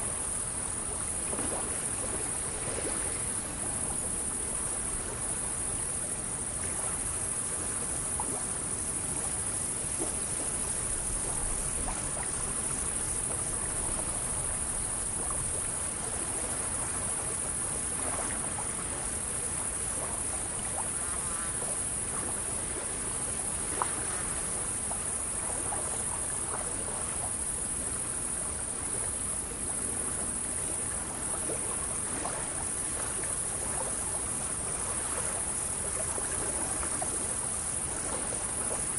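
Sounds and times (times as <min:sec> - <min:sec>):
high-pitched insect chorus: 0:00.0 - 0:38.9
lake water gently lapping: 0:00.0 - 0:38.9.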